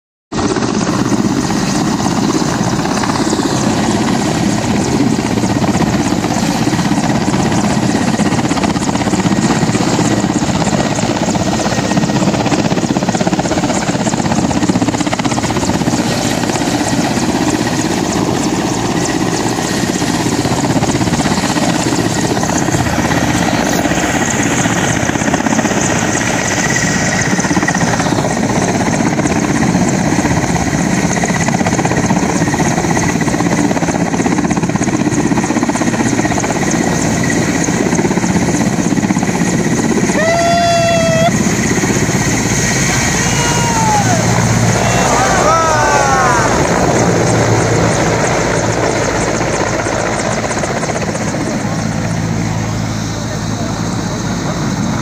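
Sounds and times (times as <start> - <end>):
helicopter rotor chop and engine: 0.3 - 55.0.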